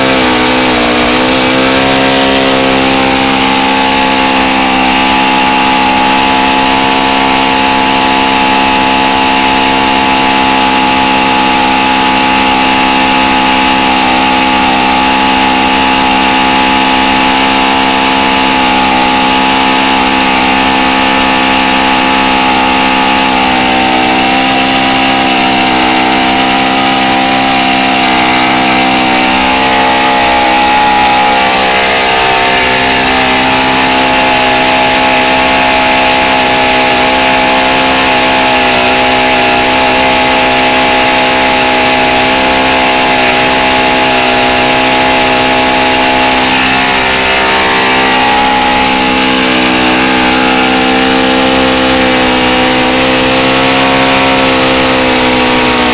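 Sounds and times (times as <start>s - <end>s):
model airplane engine running: 0.0s - 55.9s.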